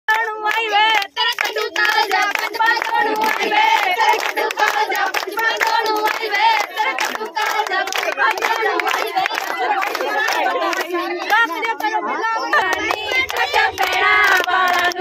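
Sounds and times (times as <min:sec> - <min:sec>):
group clapping in rhythm: 0:00.1 - 0:15.0
women and girls singing: 0:00.1 - 0:15.0.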